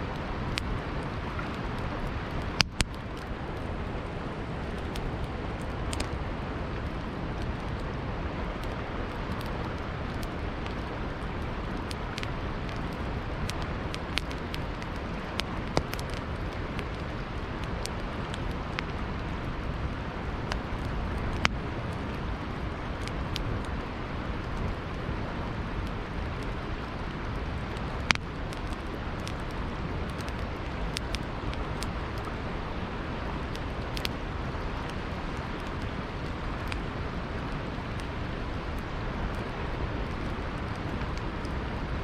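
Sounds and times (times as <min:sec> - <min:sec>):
campfire crackling and popping: 0:00.0 - 0:42.0
river water flowing: 0:00.0 - 0:42.0.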